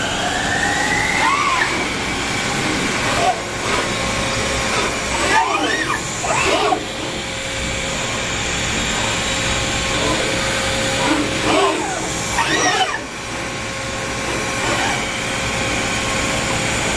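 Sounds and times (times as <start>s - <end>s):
milling machine cutting hiss: 0.0s - 16.9s.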